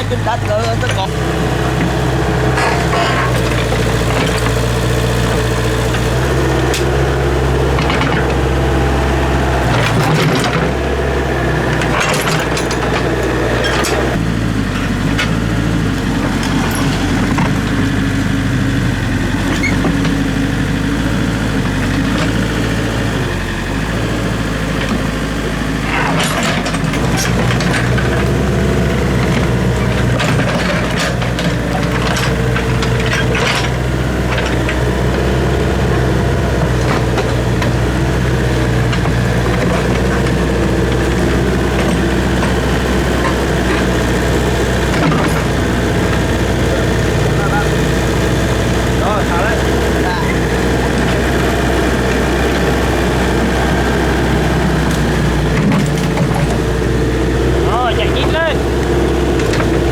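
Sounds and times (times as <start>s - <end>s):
diesel engine running: 0.0s - 59.9s
knocks and clanks: 0.0s - 59.9s.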